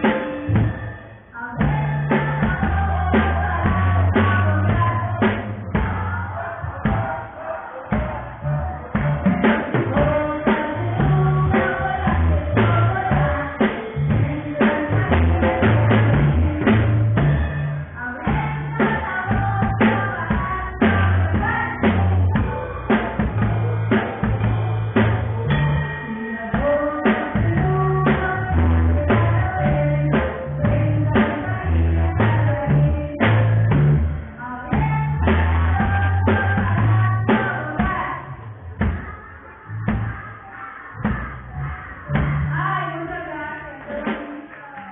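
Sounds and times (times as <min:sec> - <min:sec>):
drum kit beat: 0:00.0 - 0:42.7.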